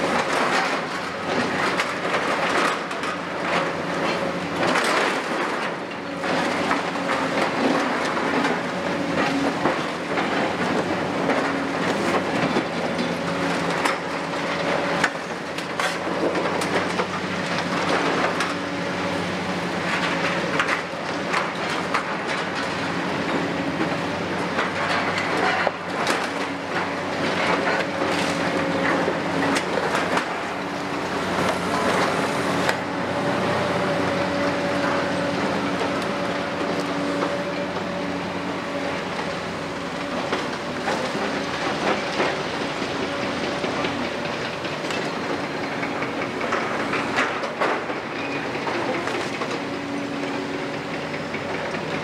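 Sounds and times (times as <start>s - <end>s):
diesel excavator engine droning: 0.0s - 52.0s.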